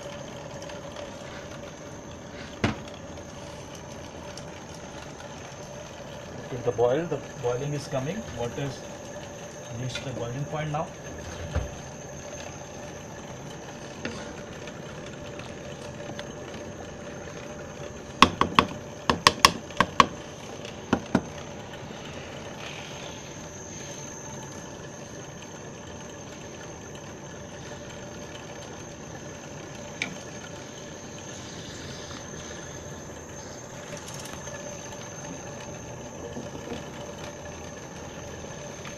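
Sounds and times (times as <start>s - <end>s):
rice boiling bubbling: 0.0s - 38.9s.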